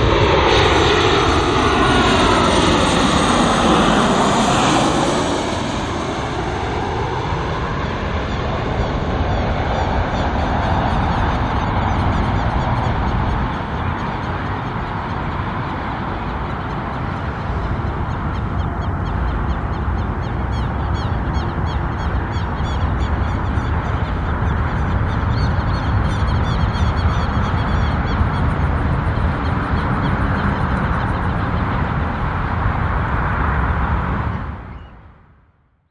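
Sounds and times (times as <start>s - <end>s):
jet engines rumbling: 0.0s - 35.3s.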